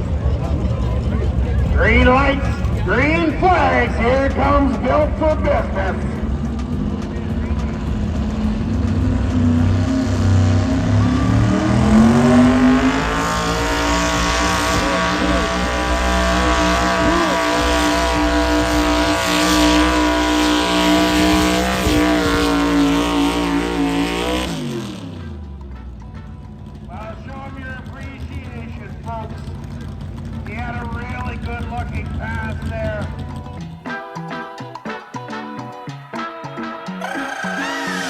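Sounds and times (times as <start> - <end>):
engine under full load: 0.0 - 33.9.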